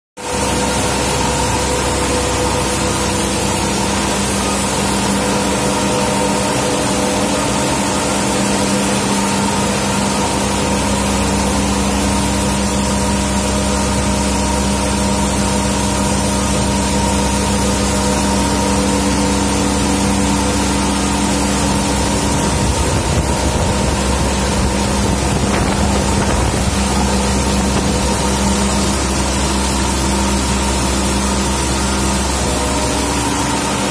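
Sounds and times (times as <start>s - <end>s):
machine hum over hiss: 0.2s - 33.9s.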